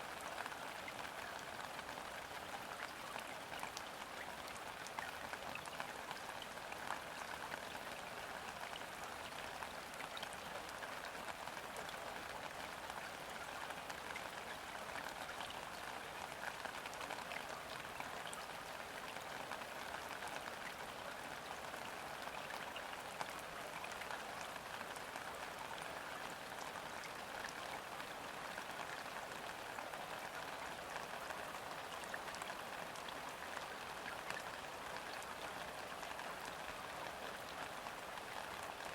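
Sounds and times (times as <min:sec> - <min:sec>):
rain falling on river: 0:00.0 - 0:38.9.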